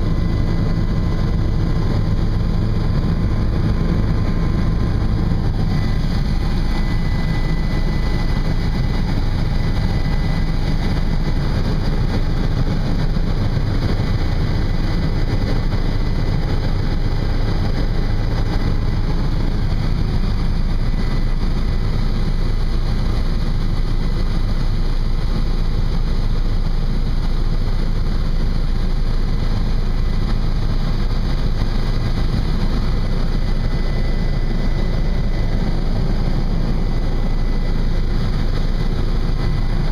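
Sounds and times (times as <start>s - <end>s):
helicopter engine and rotor drone: 0.0s - 39.9s
thin steady whine: 0.0s - 39.9s.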